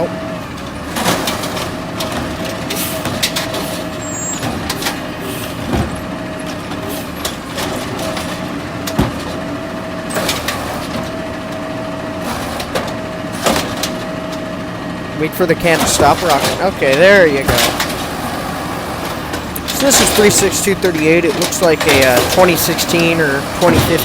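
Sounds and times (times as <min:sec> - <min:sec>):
garbage truck engine running: 0:00.0 - 0:24.0
clanks and knocks: 0:00.6 - 0:09.5, 0:10.1 - 0:14.5, 0:15.4 - 0:24.0.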